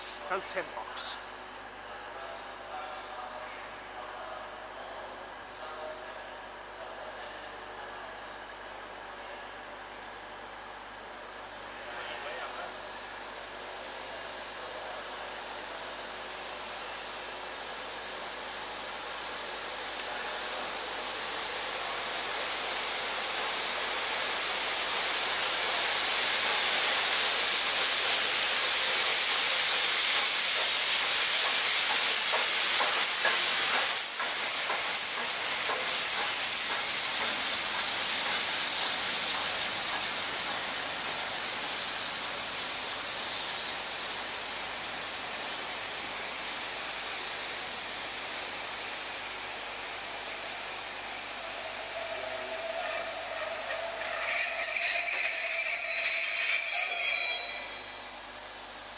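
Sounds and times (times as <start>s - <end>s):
steam locomotive hissing steam: 0.0s - 1.2s, 11.3s - 58.9s.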